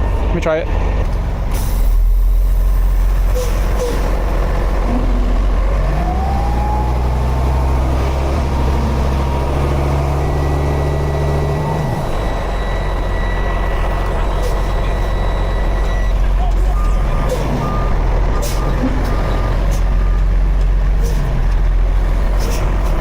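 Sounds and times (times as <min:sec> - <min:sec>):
diesel engine revving hard: 0:02.4 - 0:23.0.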